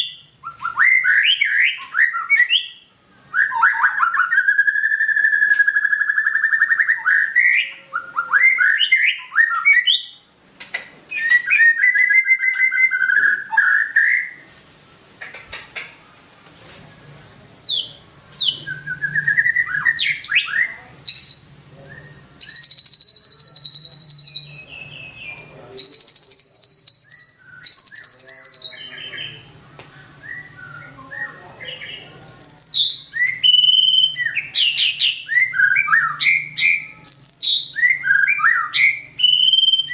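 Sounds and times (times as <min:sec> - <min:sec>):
shama singing whistles and trills: 0:00.0 - 0:15.6, 0:17.6 - 0:39.9.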